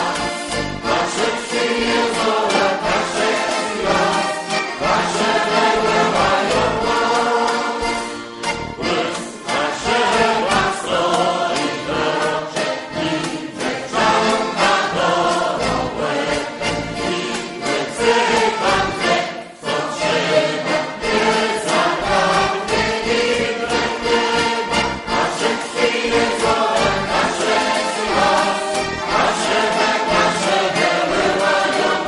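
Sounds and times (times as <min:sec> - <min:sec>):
choir singing a folk song: 0:00.0 - 0:32.0.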